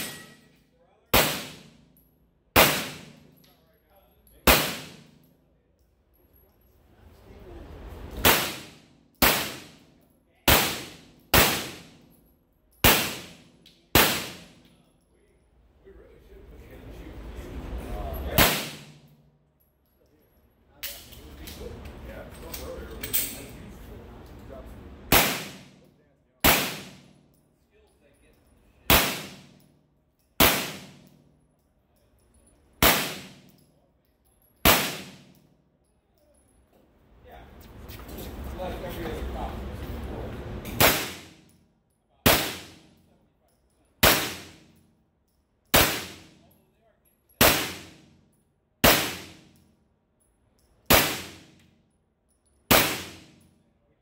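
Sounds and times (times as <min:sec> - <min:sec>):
pistol shots in indoor range: 0:00.0 - 0:06.9, 0:07.6 - 0:15.8, 0:18.3 - 0:21.6, 0:24.3 - 0:37.1, 0:40.6 - 0:54.0.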